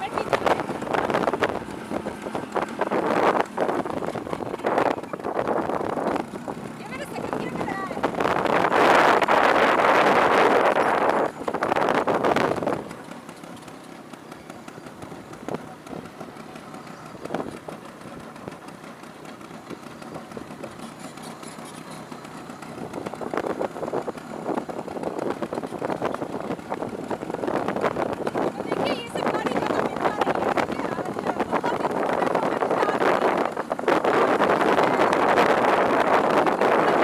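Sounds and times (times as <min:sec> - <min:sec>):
scooter engine running: 0:00.0 - 0:37.0.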